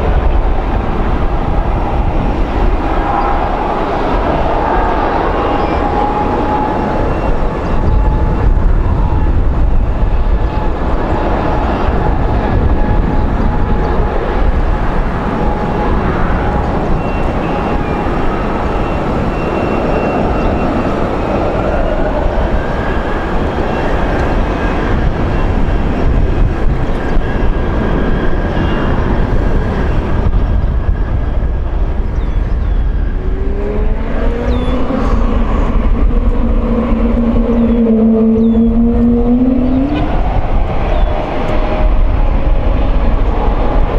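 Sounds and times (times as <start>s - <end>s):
jet engines howling: 0.0s - 43.9s
lower jet engine howl rising: 0.0s - 43.9s.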